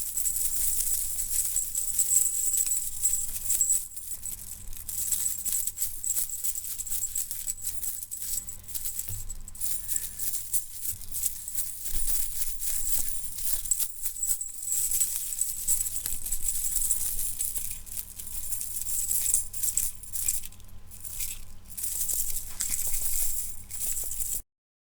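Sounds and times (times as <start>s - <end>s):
metal chain rattling: 0.0s - 24.4s.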